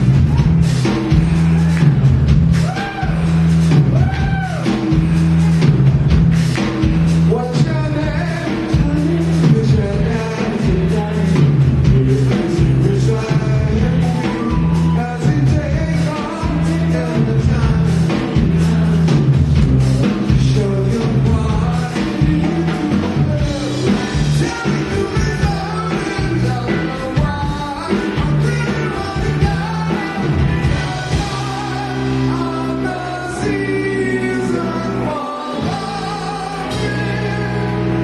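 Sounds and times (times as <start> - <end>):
rock band playing: 0.0 - 38.0
man singing: 7.3 - 38.0.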